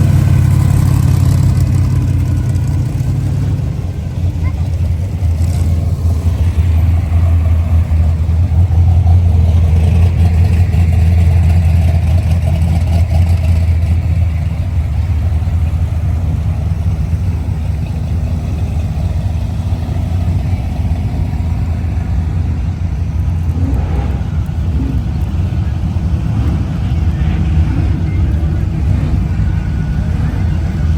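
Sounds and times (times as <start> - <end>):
car engine droning: 0.0 - 30.9.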